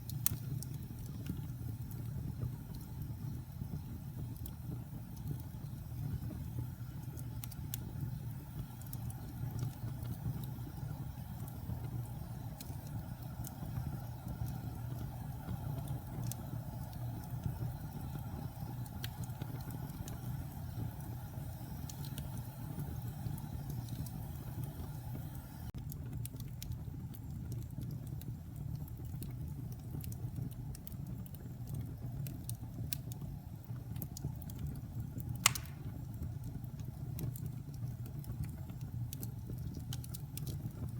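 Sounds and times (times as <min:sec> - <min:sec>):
fire roaring: 0:00.0 - 0:40.9
wood crackling and popping: 0:00.0 - 0:40.9.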